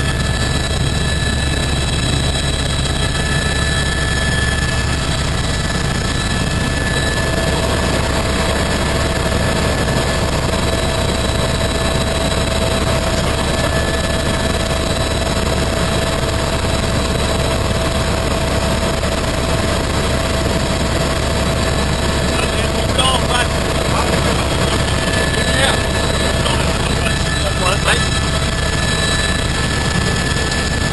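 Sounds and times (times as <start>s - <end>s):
constant whine: 0.0s - 30.9s
helicopter rotor and engine noise: 0.0s - 30.9s.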